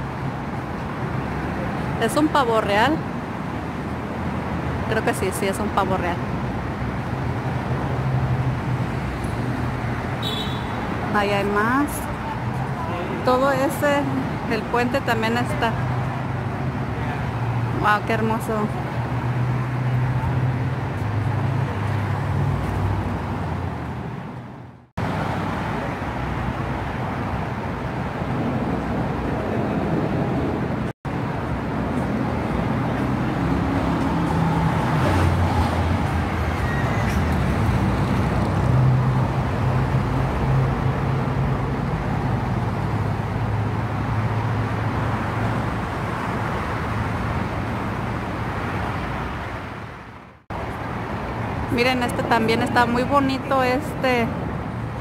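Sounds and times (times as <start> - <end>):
freeway traffic noise: 0.0 - 55.0.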